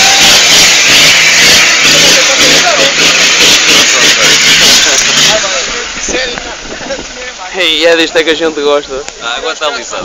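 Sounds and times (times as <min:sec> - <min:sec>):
diesel engine under load: 0:00.0 - 0:10.0.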